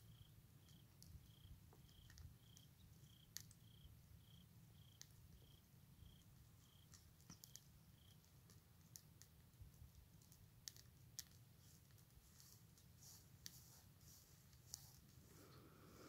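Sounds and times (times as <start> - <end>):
faint insect chirping: 0.0 - 16.0
faint sharp clicks: 0.6 - 13.6.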